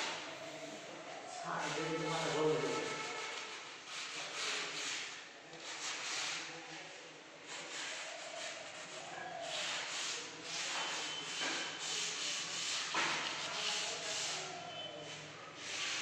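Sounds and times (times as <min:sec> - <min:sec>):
sandpaper rasping on wood: 0:01.5 - 0:14.7, 0:15.6 - 0:16.0.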